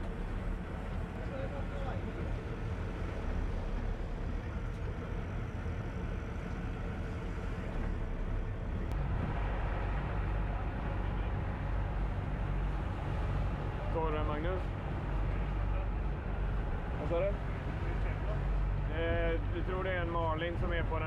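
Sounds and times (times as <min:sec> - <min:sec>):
boat engines rumbling: 0:00.0 - 0:21.0
rushing sea water: 0:00.0 - 0:21.0
wind: 0:00.0 - 0:21.0.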